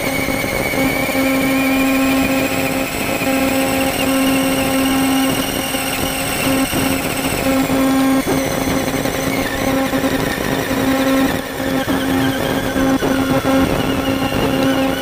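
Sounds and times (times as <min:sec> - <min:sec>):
steady hum: 0:00.0 - 0:15.0
toy truck electric motor whining: 0:00.0 - 0:15.0.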